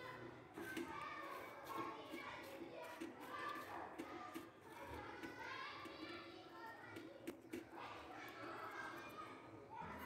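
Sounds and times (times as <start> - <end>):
children chattering and playing: 0.0 - 10.0.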